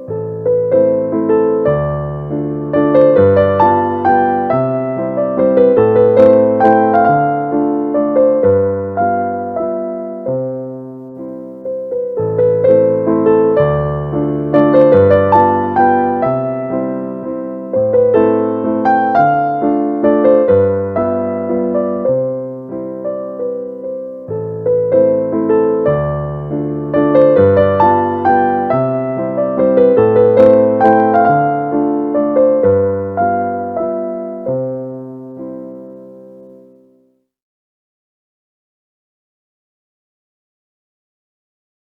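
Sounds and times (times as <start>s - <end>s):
gentle piano melody: 0.0s - 37.1s.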